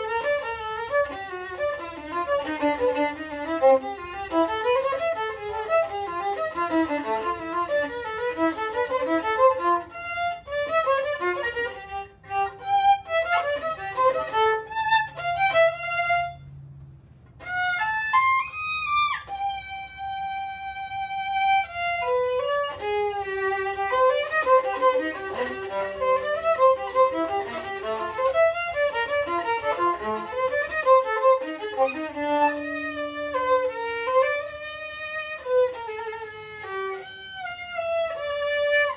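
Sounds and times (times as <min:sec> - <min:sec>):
solo violin playing: 0:00.0 - 0:38.9.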